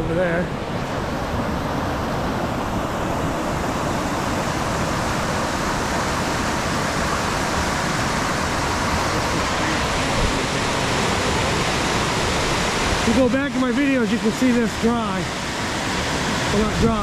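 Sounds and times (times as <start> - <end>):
fast-flowing water rushing: 0.0 - 17.0.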